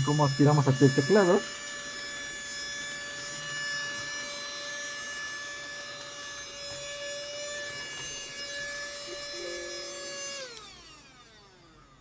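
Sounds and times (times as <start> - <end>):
handheld vacuum cleaner running: 0.0 - 12.0.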